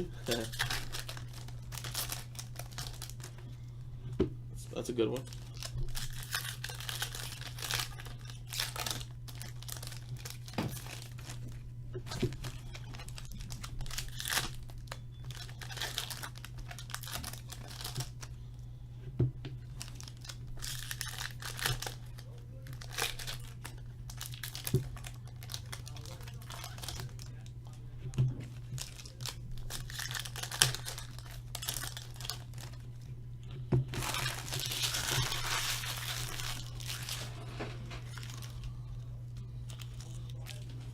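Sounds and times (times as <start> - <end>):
card packs tearing open: 0.0 - 3.4, 4.8 - 18.3, 19.7 - 27.5, 28.6 - 32.8, 33.9 - 38.9
wrappers crinkling: 0.0 - 3.6, 4.7 - 18.3, 19.6 - 27.5, 28.4 - 33.1, 33.9 - 40.9.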